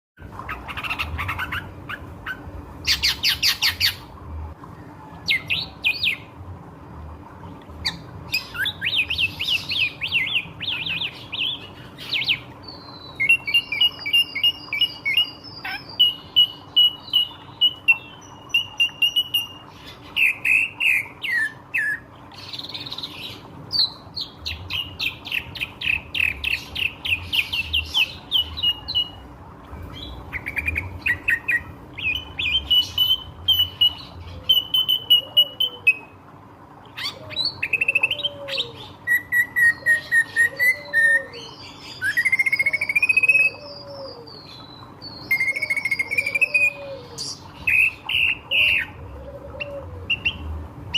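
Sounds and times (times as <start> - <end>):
bird singing varied song: 0.4 - 4.1, 4.7 - 6.4, 7.4 - 36.2, 36.8 - 50.9.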